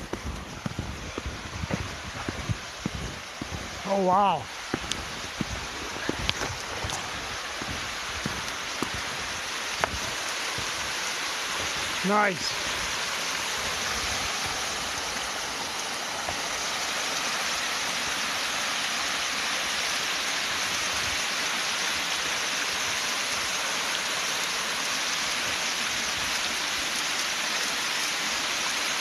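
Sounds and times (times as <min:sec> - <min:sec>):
water rushing over small falls: 0:00.0 - 0:29.0.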